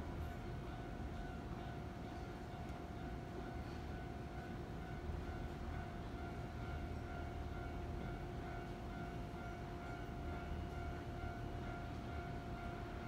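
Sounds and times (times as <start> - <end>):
electric train equipment hum: 0.0 - 13.0.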